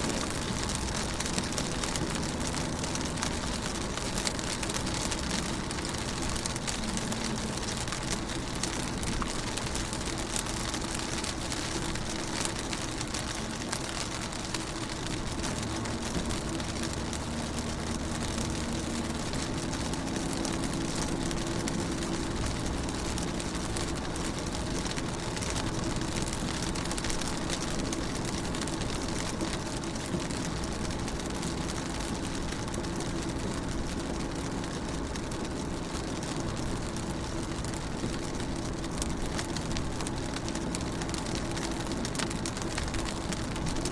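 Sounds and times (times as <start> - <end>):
rain on car windows: 0.0 - 43.9.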